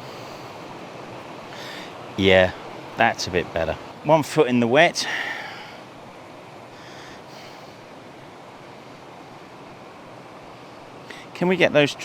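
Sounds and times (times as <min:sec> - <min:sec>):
stream rushing over waterfalls: 0:00.0 - 0:12.0.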